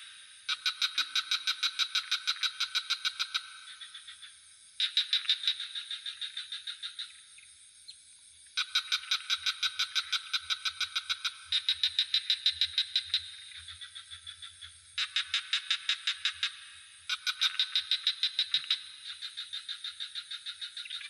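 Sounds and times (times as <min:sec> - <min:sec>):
frog chorus trilling: 0:00.0 - 0:21.0
high cricket drone: 0:00.0 - 0:21.0.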